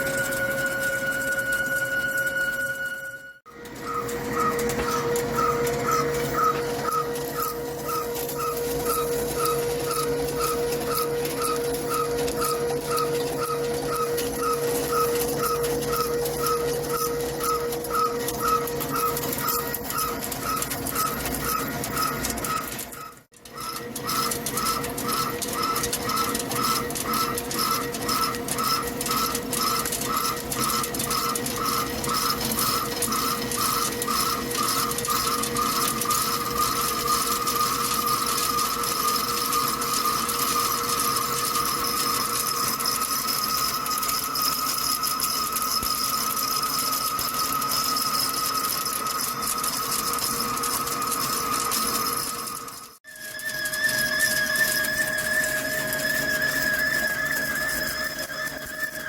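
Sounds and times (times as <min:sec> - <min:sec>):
constant machine hum: 0:00.0 - 0:59.0
lathe tool squealing: 0:00.0 - 0:59.0.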